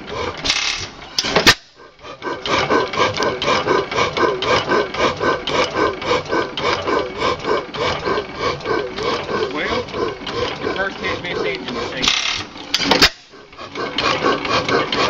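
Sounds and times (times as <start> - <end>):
gas engine clattering: 0.0 - 15.0.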